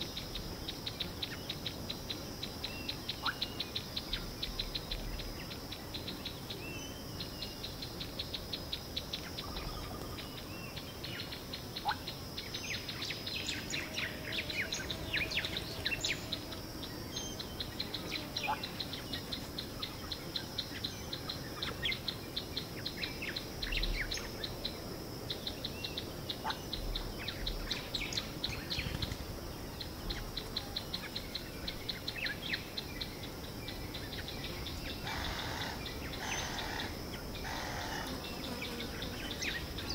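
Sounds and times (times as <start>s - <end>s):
steady high insect drone: 0.0s - 39.9s.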